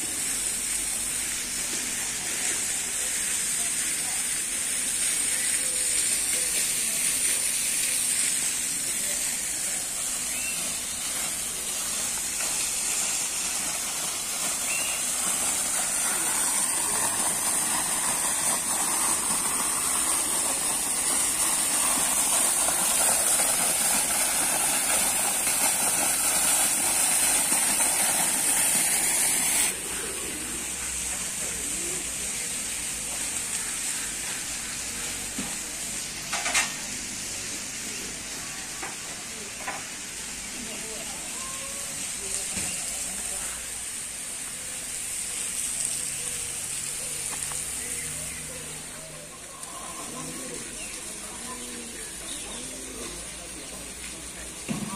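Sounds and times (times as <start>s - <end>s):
fountain water splashing: 0.0s - 54.9s
high outdoor hiss: 0.0s - 54.9s.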